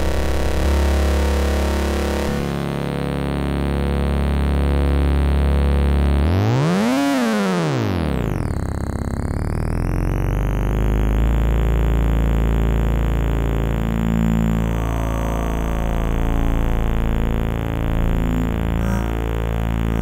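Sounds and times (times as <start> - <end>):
oscillator droning low: 0.0 - 20.0.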